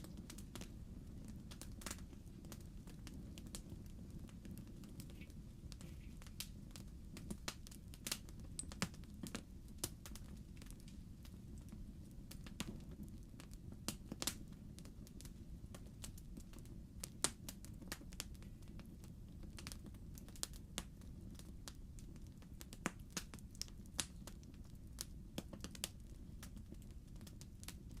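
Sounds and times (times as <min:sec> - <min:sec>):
logs crackling in fireplace: 0:00.0 - 0:28.0.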